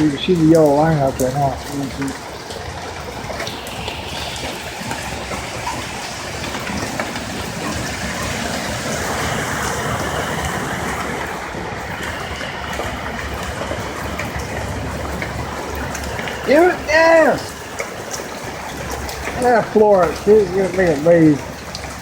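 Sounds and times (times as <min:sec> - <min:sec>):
vehicle splashing through water: 0:00.0 - 0:22.0.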